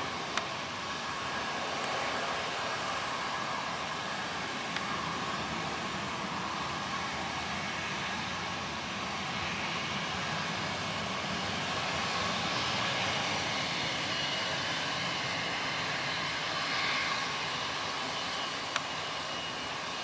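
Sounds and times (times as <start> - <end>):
airliner engine noise: 0.0 - 20.0.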